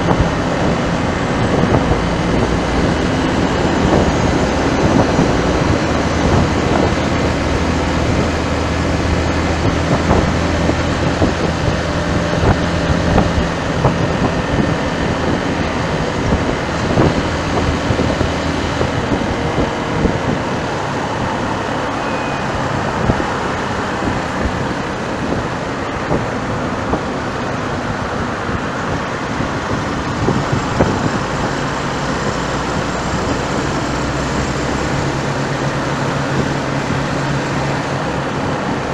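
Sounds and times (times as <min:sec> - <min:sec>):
low engine hum: 0:00.0 - 0:38.9
passing vehicles rushing: 0:00.0 - 0:38.9
wind noise: 0:00.0 - 0:38.9.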